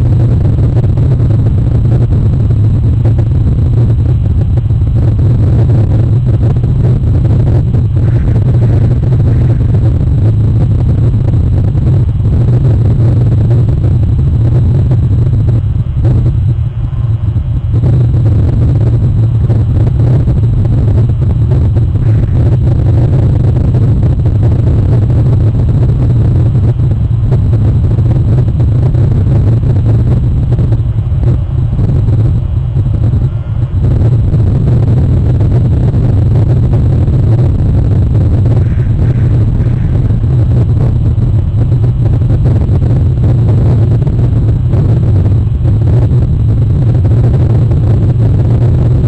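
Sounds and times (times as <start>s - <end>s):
loud low rumble: 0.0s - 49.0s
low hum: 0.0s - 49.0s.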